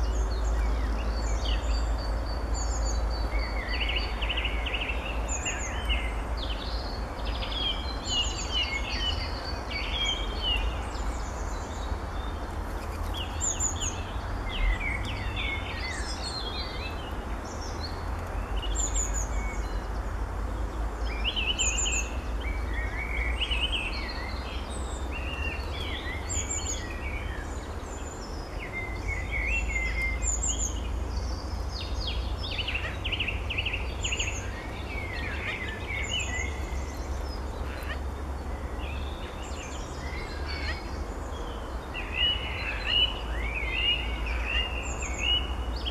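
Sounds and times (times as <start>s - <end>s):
songbirds singing and chirping: 0.0s - 45.9s.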